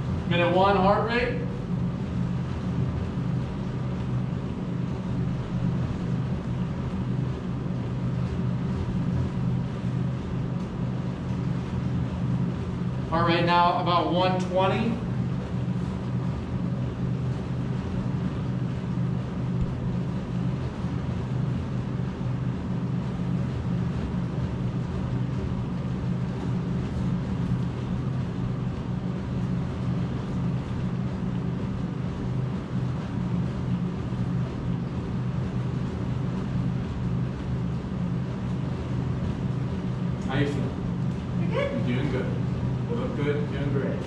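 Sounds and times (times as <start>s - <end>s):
treadmill motor and belt hum: 0.0s - 44.0s.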